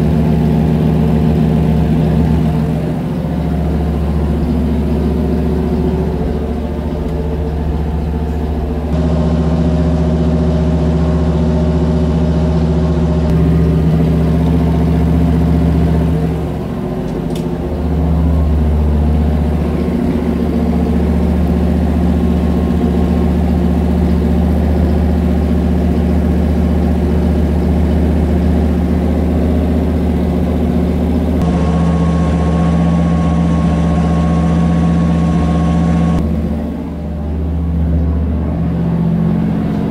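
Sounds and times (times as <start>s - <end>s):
engine running on a dyno: 0.0s - 39.9s.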